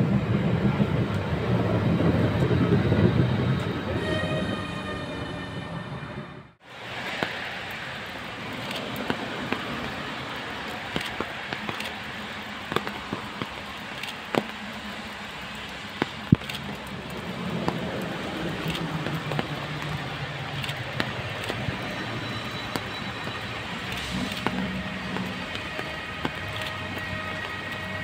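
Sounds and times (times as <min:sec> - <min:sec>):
electric locomotive hum: 0:00.0 - 0:28.0
steady background noise: 0:00.0 - 0:28.0.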